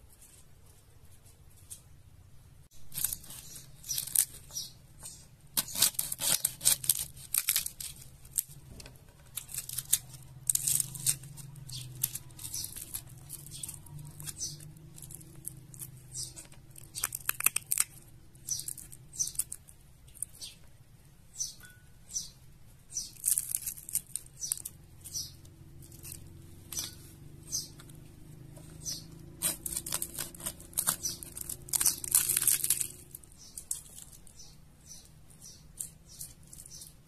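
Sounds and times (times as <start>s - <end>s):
dried limes cracking: 2.8s - 20.6s, 23.0s - 37.0s.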